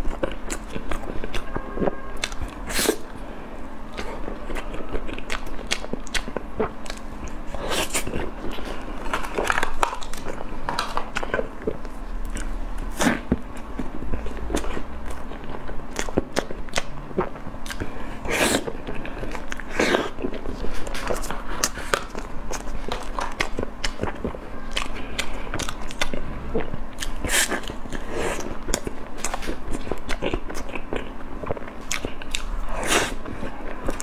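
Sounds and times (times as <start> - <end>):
wet chewing smacks: 3.9 - 34.0.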